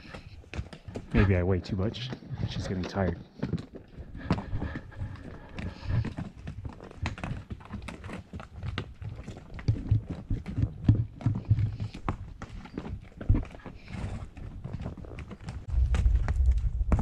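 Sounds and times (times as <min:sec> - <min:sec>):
horse hooves clopping: 0:00.0 - 0:17.0.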